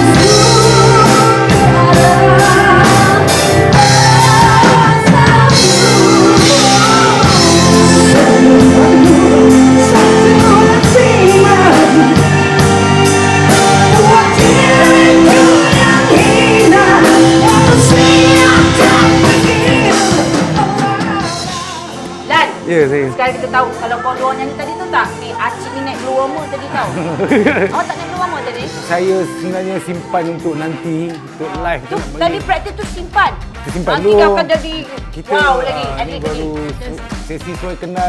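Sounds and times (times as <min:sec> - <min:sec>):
rock music with singing: 0:00.0 - 0:38.0.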